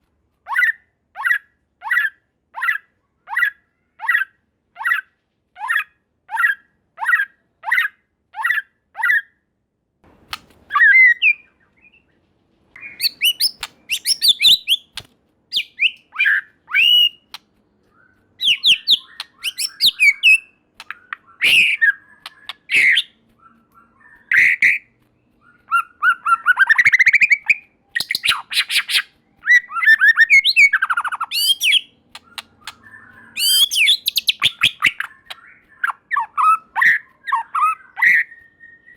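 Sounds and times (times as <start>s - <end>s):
bird singing: 0.5s - 9.4s, 10.7s - 38.9s.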